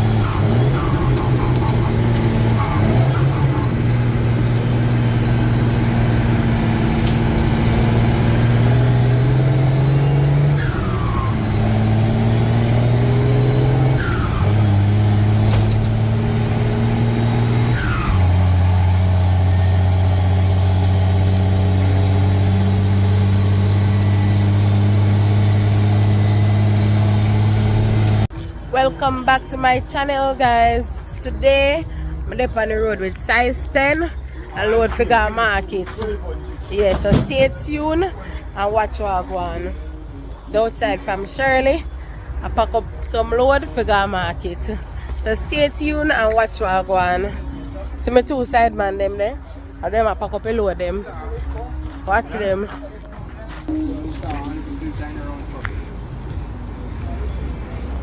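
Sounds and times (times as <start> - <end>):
truck engine changing gears: 0.0 - 30.0, 30.7 - 47.5.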